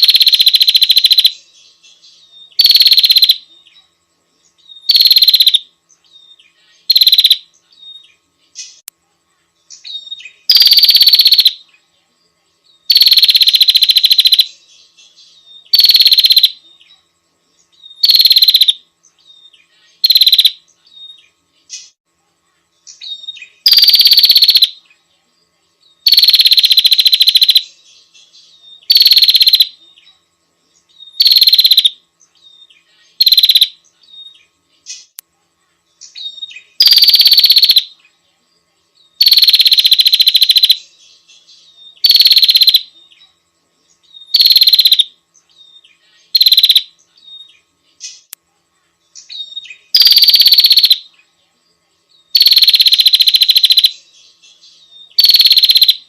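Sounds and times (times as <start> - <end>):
buzzy bird chirping: 0.0 - 56.0.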